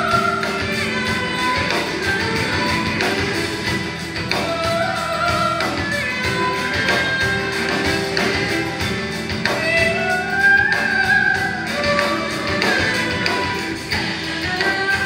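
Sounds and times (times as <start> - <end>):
drums: 0.0 - 15.0
electric violin melody: 0.0 - 15.0
piano: 0.0 - 15.0.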